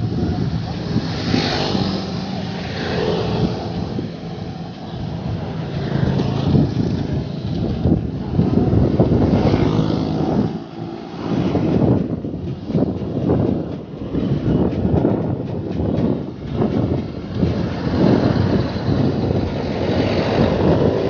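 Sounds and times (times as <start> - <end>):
vehicle engines passing: 0.0 - 21.0
wind on microphone: 0.0 - 21.0.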